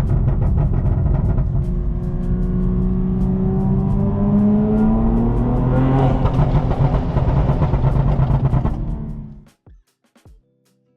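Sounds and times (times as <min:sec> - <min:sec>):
car engine accelerating hard: 0:00.0 - 0:09.4.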